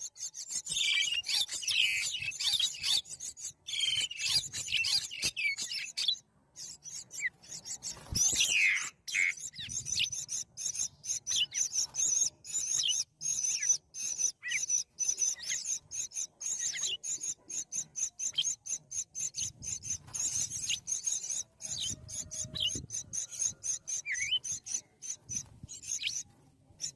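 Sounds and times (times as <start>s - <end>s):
birds rasping chatter: 0.0s - 26.9s.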